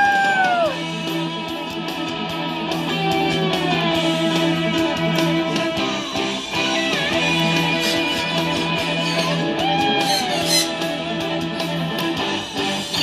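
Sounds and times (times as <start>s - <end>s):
rock music with guitar: 0.0s - 13.0s.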